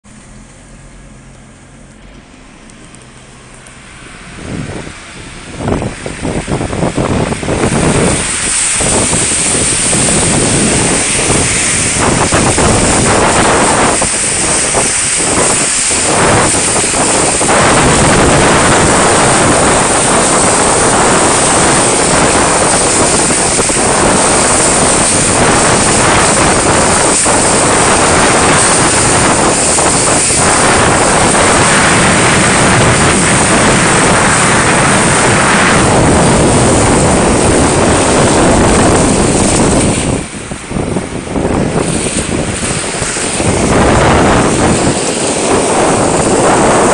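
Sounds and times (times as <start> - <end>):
wind noise on microphone: 0.0 - 46.9
tyres splashing through water: 0.1 - 46.9.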